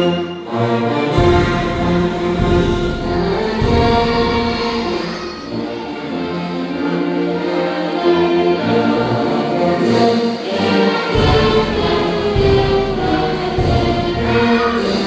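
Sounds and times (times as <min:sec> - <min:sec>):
choir singing sustained notes: 0:00.0 - 0:15.0
orchestra with brass: 0:00.0 - 0:15.0.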